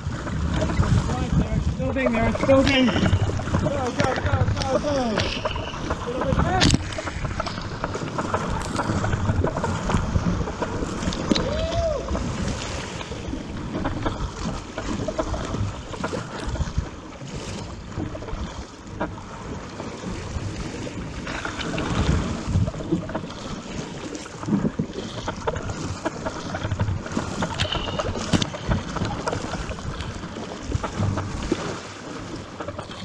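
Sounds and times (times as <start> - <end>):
water splashing and sloshing: 0.0 - 33.0
wind buffeting microphone: 0.0 - 33.0.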